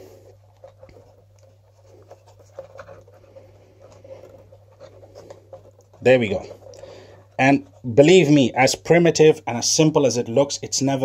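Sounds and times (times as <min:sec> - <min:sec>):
fingers rustling foam: 0:00.0 - 0:09.2.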